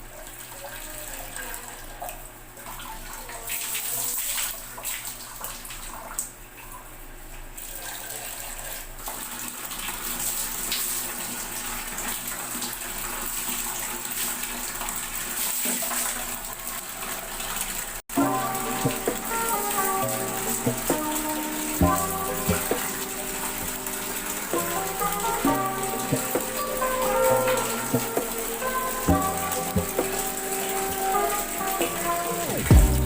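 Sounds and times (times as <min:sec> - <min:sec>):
water pouring and splashing: 0:00.0 - 0:06.4, 0:07.5 - 0:33.0.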